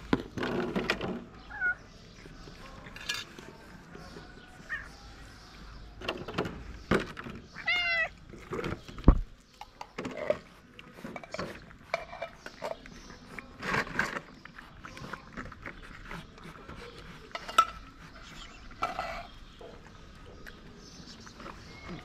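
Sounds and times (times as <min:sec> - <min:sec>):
cats eating from cans: 0:00.0 - 0:22.0.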